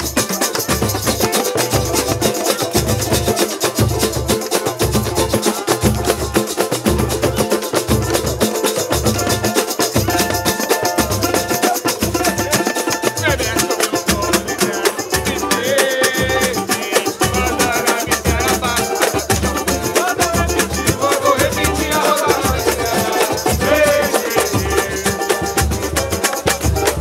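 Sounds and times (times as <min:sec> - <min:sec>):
jingling frame drums: 0:00.0 - 0:27.0
live samba music: 0:00.0 - 0:27.0
strummed strings: 0:00.0 - 0:27.0.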